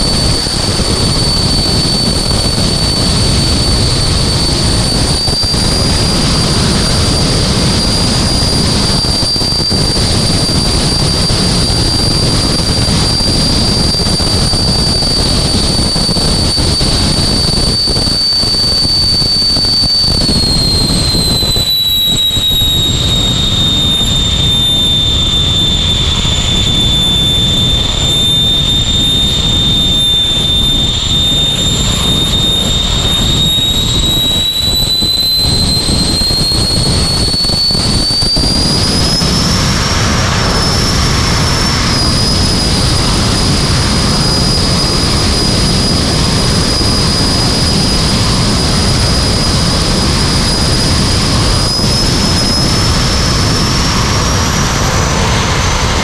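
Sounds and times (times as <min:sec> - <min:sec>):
jet engine rumbling and whining: 0:00.0 - 0:56.0.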